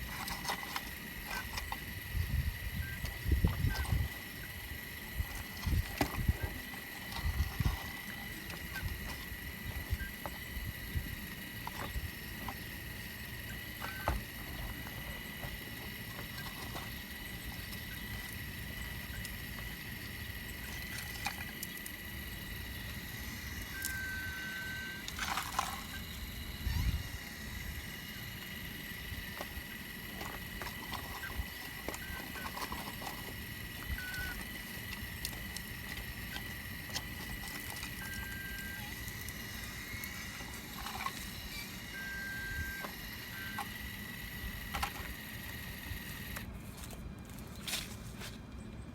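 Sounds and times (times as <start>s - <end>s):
diesel rumble with high whine: 0.0s - 48.9s.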